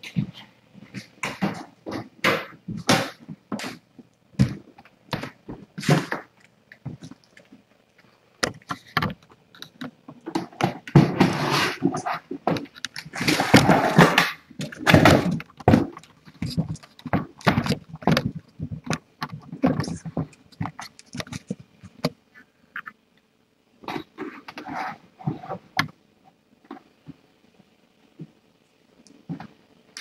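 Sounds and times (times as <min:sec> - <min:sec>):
rustling and scraping: 0:00.0 - 0:23.0, 0:23.8 - 0:26.0.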